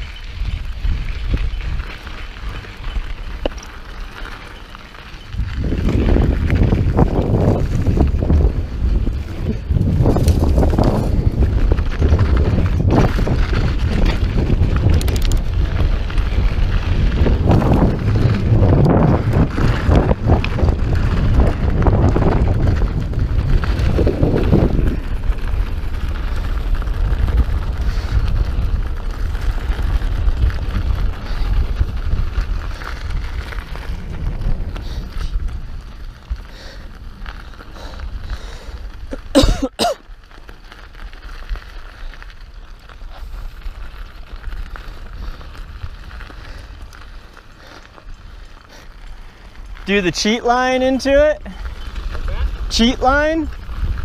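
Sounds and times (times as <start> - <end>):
bike tyres rolling on dirt: 0.0 - 54.0
wind buffeting microphone: 0.0 - 54.0.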